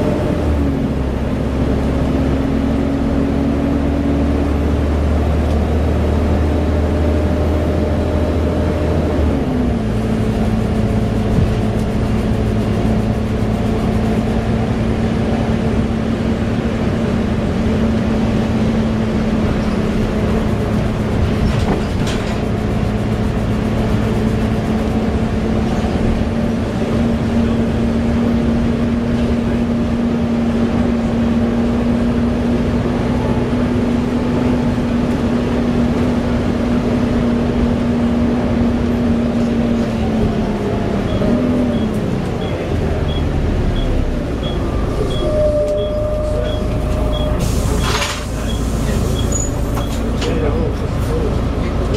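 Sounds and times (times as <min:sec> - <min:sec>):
bus engine droning: 0:00.0 - 0:51.9.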